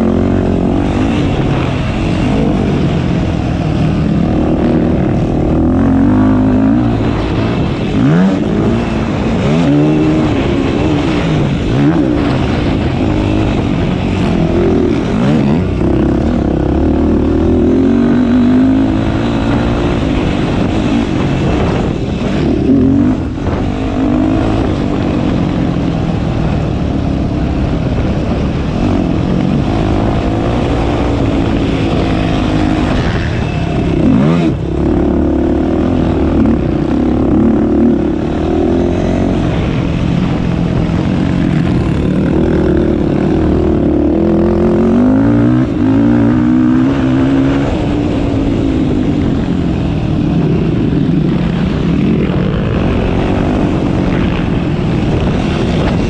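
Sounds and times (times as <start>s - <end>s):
quad engine revving: 0.0s - 26.2s, 27.7s - 49.4s.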